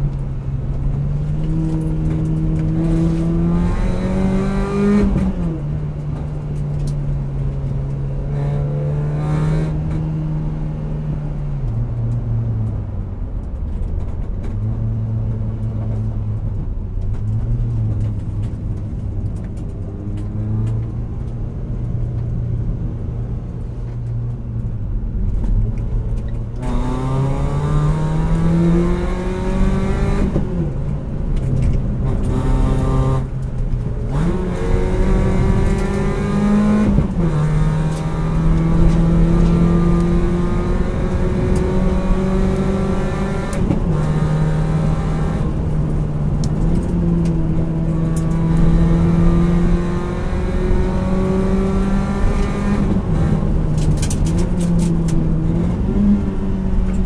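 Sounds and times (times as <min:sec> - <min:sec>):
car engine accelerating through gears: 0:00.0 - 0:57.0
road rumble: 0:00.0 - 0:57.0.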